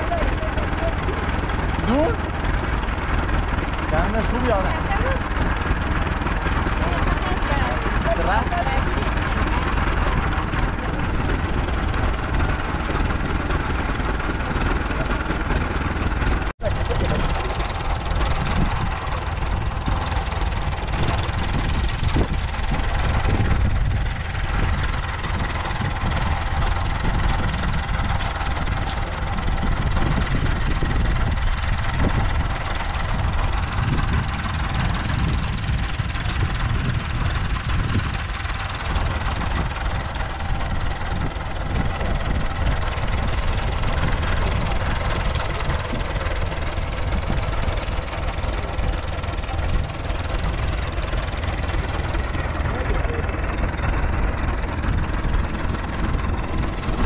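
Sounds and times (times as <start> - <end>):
farm machinery engine running: 0.0 - 57.0.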